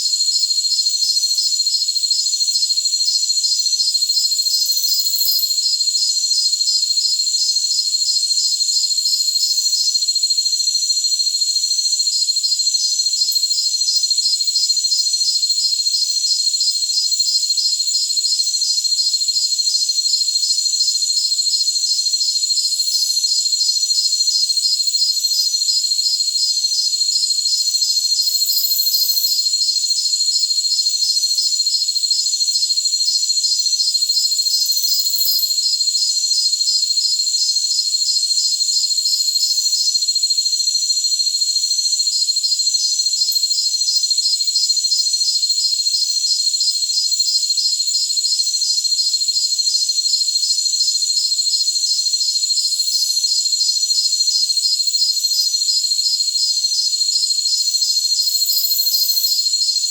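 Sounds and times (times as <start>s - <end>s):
crickets high-pitched trill: 0.0s - 59.9s
rapid pulsing insect chirp: 0.0s - 59.9s.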